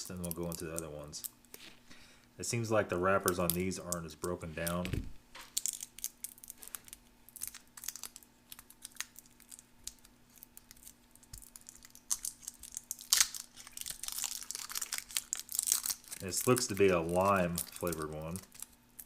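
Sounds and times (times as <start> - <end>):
candy wrapper tearing and crinkling: 0.0 - 1.4, 3.2 - 4.8, 5.5 - 19.0.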